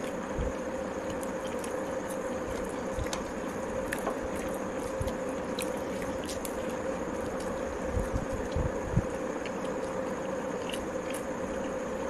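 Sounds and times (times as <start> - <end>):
background hum and hiss: 0.0 - 12.0
person chewing food: 0.0 - 12.0.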